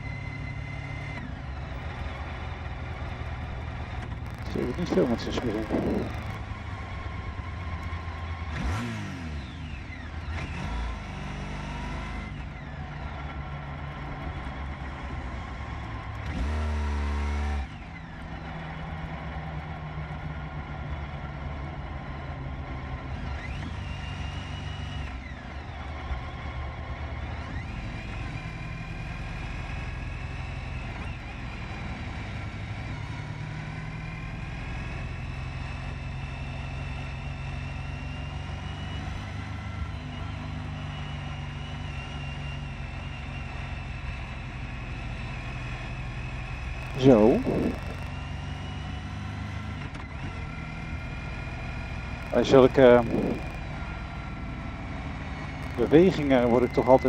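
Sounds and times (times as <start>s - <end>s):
motorcycle engine accelerating: 0.0s - 57.0s
traffic noise: 0.0s - 57.0s.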